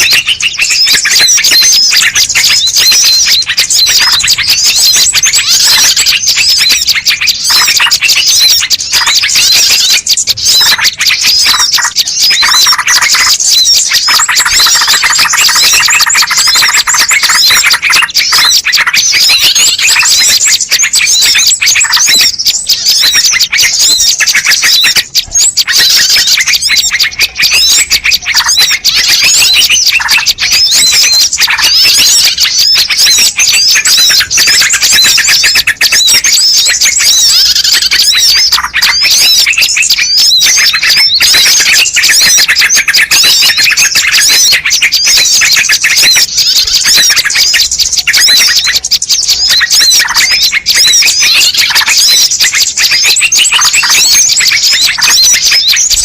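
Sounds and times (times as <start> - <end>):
chorus of small birds chirping: 0.0 - 56.0.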